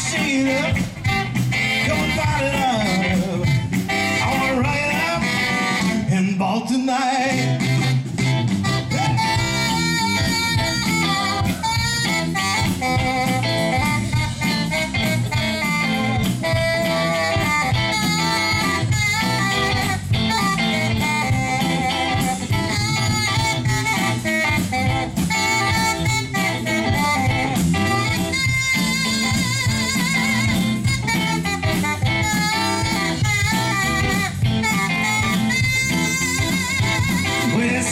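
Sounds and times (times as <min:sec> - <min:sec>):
saxophone: 0:00.0 - 0:06.2, 0:07.2 - 0:37.9
guitar: 0:00.0 - 0:37.9
live rock and roll band: 0:00.0 - 0:37.9.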